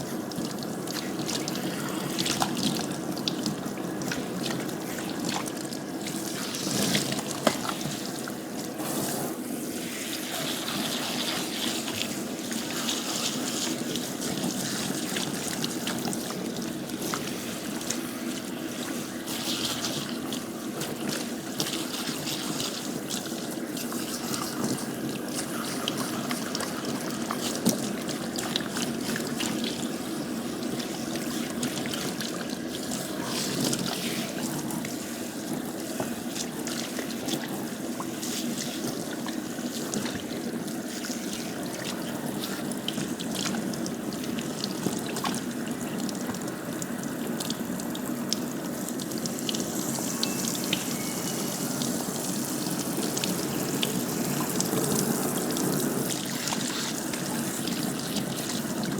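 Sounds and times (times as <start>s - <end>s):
water trickling and splashing: 0.1s - 58.9s.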